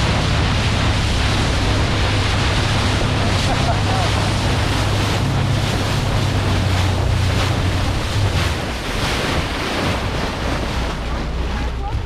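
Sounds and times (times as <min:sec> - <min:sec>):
boat engine hum: 0:00.0 - 0:12.0
water rushing along a hull: 0:00.0 - 0:12.0
wind buffeting microphone: 0:00.0 - 0:12.0.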